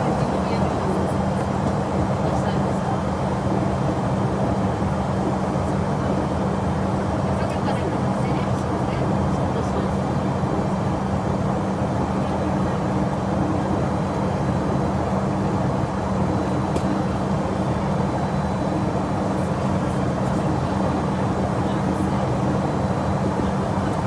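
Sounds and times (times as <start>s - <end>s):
jet engines running steadily: 0.0s - 24.0s.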